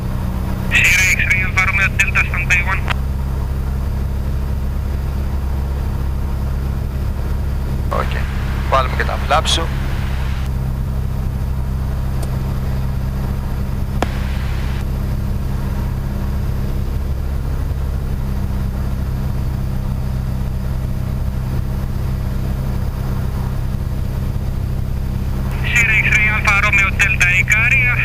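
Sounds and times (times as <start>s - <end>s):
aircraft engine and propeller droning: 0.0s - 28.0s.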